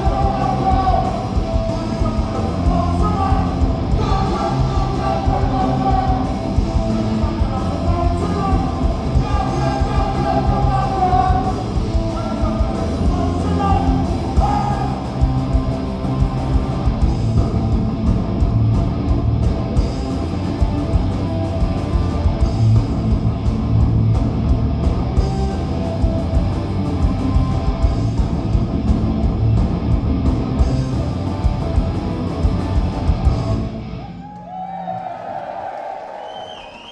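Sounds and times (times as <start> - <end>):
punk rock band playing live: 0.0 - 34.2.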